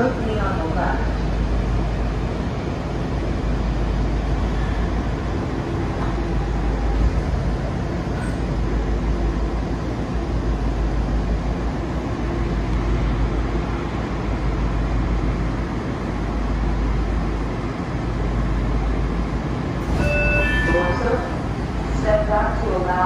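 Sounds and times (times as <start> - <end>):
train coach rumble: 0.0 - 23.0.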